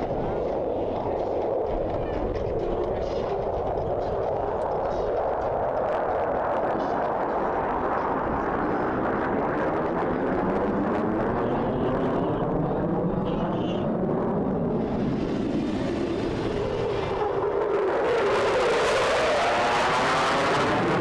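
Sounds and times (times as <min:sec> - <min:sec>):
jet engine noise overhead: 0:00.0 - 0:21.0.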